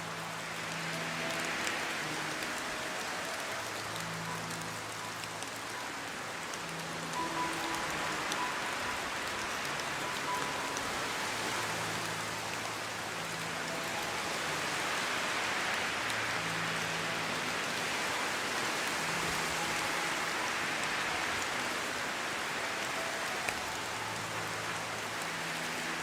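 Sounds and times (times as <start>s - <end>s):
soft background music: 0.0s - 26.0s
steady rainfall: 0.0s - 26.0s.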